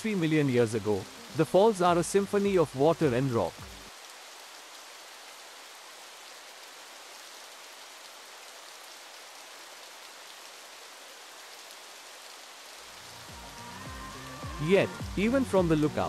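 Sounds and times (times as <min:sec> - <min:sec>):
waterfall hiss: 0:00.0 - 0:16.0.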